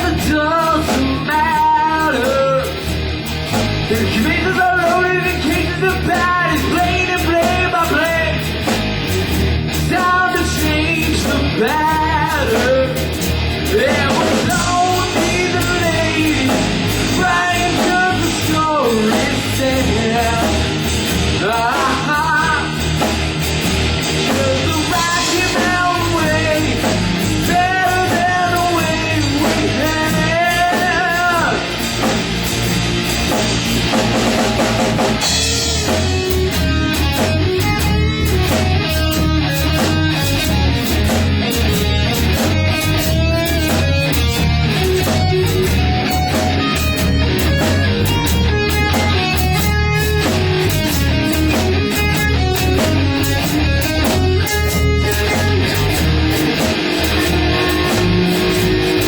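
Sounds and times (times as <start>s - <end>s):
drums and bass: 0.0s - 59.0s
electric guitar bending pitch: 0.0s - 59.0s.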